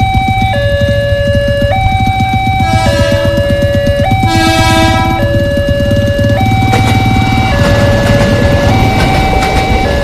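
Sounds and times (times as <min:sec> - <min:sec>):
two-tone level crossing siren: 0:00.0 - 0:10.0.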